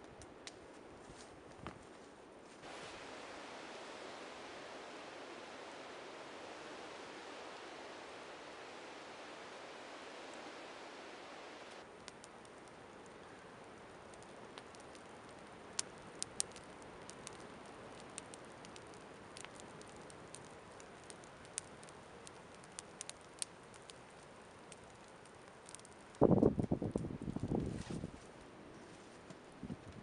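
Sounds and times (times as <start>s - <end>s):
campfire crackling and popping: 0.0s - 0.7s, 2.6s - 28.5s
faint steady hiss: 0.0s - 30.0s.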